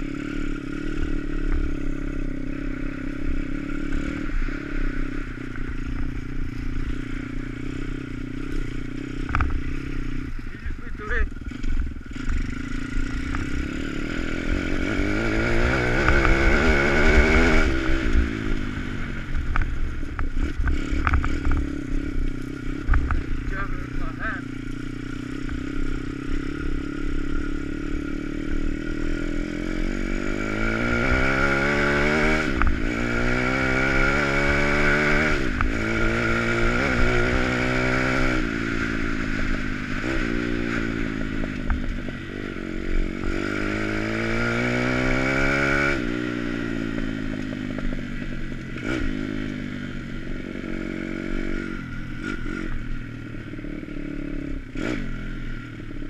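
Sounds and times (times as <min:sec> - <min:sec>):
dirt bike engine accelerating: 0:00.0 - 0:56.0.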